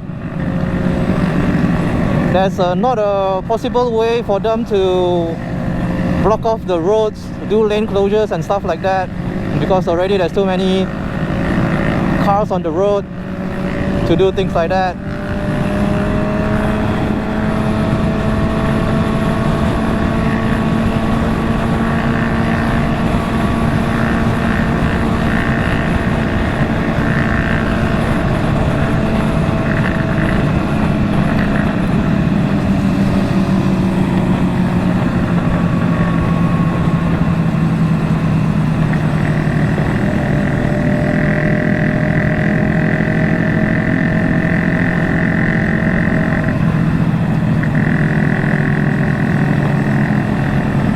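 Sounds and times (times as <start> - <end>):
motorcycle engines cruising: 0.0 - 50.9
wind and road noise: 0.0 - 50.9.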